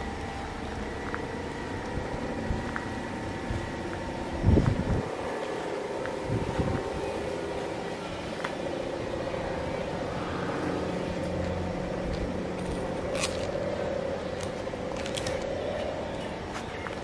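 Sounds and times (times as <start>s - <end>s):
low even hum: 0.0s - 17.0s.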